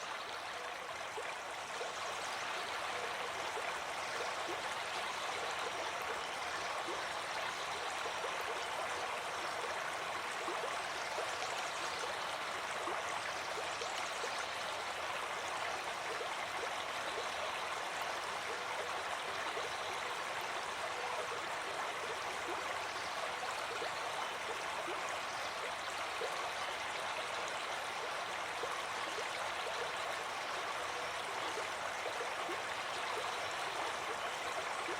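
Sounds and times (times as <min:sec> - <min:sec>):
brook babbling over stones: 0:00.0 - 0:34.9.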